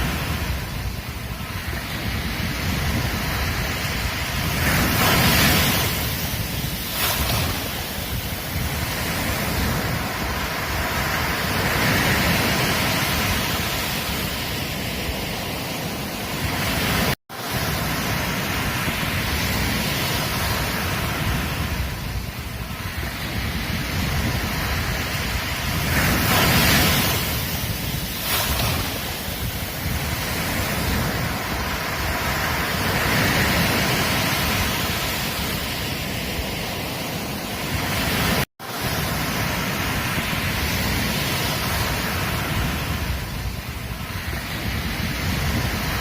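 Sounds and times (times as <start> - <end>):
waves breaking on a beach: 0.0 - 46.0.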